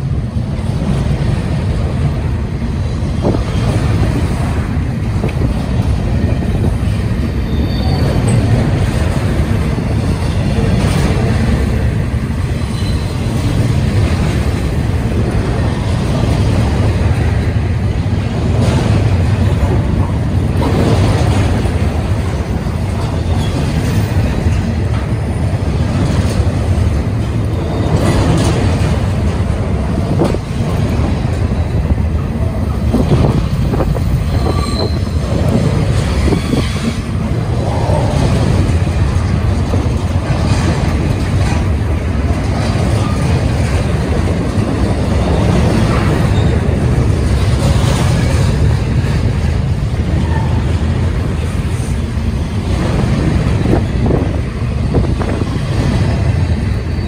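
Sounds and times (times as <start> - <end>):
train cars clanking: 0.0 - 57.0
train wheels rumbling on rail: 0.0 - 57.0.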